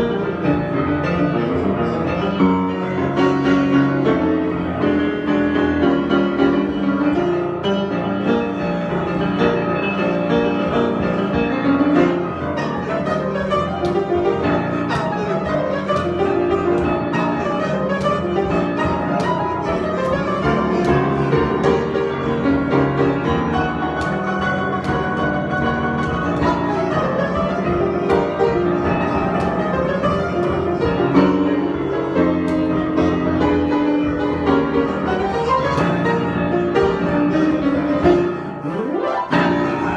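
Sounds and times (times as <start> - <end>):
piano improvisation: 0.0 - 39.9.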